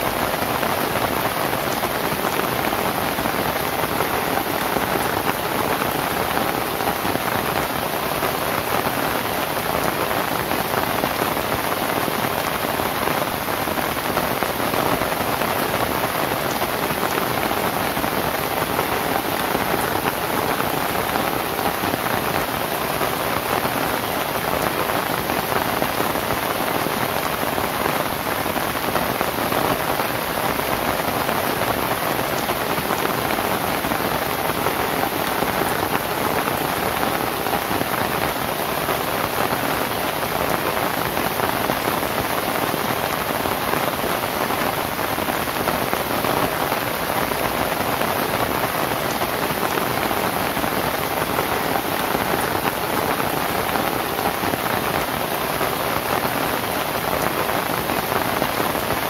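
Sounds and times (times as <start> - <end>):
rain on palm-leaf roof: 0.0 - 59.0.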